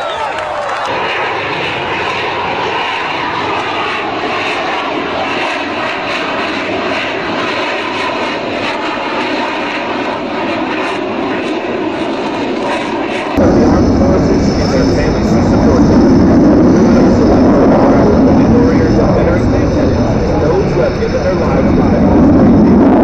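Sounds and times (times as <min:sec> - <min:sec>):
fighter jet engine roar: 0:00.0 - 0:23.0.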